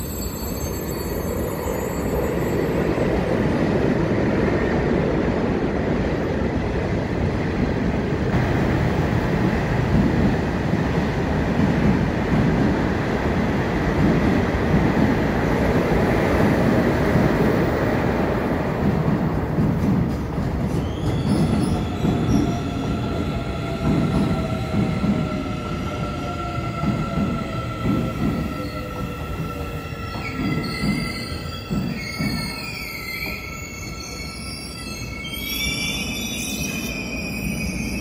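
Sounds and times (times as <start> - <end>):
train wheels rumbling on rails: 2.0 - 38.0.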